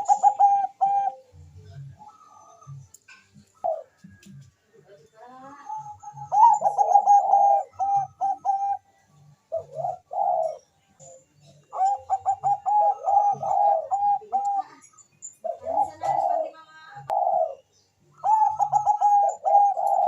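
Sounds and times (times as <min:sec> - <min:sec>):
dove cooing: 0:00.0 - 0:04.4, 0:05.5 - 0:20.0.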